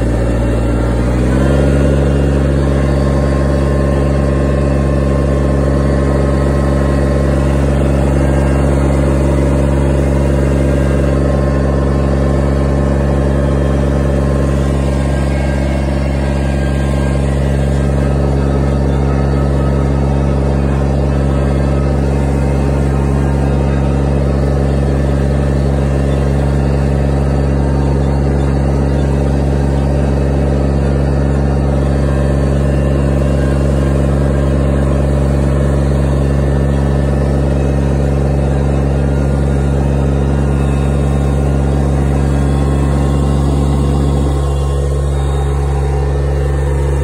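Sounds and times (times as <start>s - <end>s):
garden tractor engine droning: 0.0s - 47.0s.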